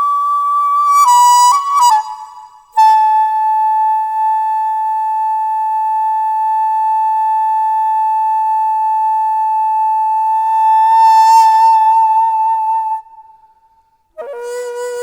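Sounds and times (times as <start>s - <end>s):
bamboo flute long high note: 0.0s - 13.3s, 14.2s - 15.0s.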